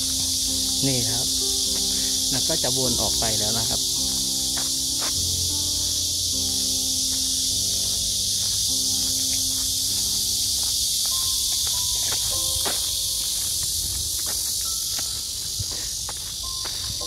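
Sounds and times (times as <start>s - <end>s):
soft held musical notes: 0.0s - 14.0s
insect chorus chirring: 0.0s - 17.0s.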